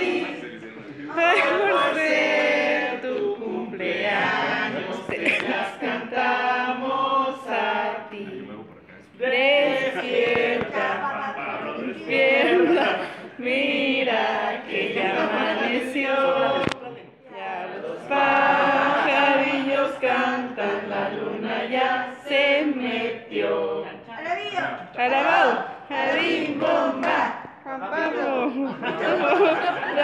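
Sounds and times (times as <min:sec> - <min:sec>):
group singing unaccompanied: 0:00.0 - 0:30.0.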